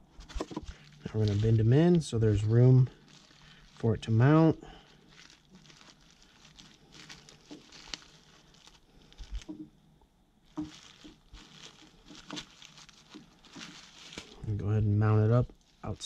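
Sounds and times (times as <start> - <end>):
plastic wrap crinkling: 0.0 - 9.8, 10.4 - 16.0.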